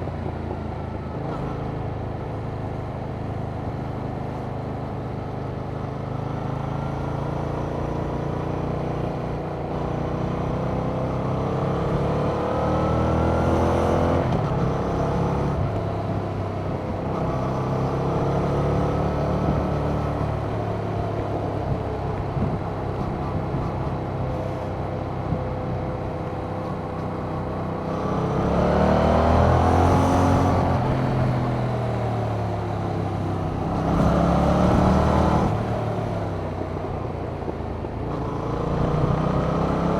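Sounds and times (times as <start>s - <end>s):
motorcycle engine accelerating: 5.2s - 39.9s.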